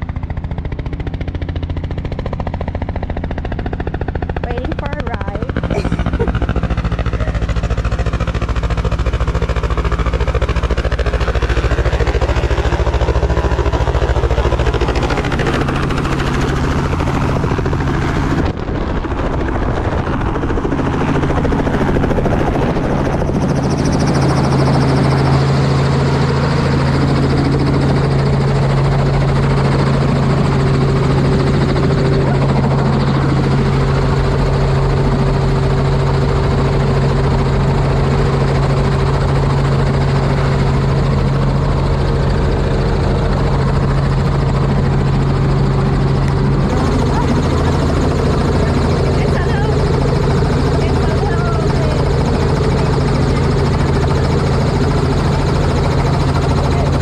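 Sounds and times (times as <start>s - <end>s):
helicopter rotor beat: 0.0s - 57.0s.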